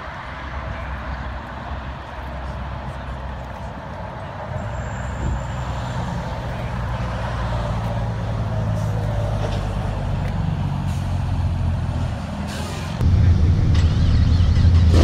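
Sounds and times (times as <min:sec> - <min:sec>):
car engines idling: 0:00.0 - 0:15.0.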